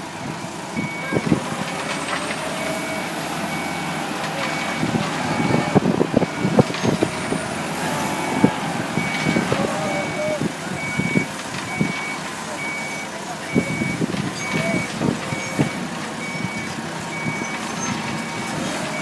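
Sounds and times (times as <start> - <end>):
engine running: 0.0 - 19.0
reversing alarm beeping: 0.8 - 1.4, 2.4 - 19.0.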